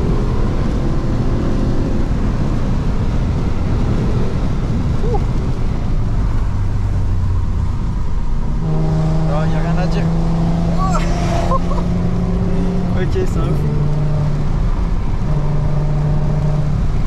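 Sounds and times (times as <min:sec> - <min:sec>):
car engine running: 0:00.0 - 0:17.0
tyre and road noise on wet road: 0:00.0 - 0:17.0.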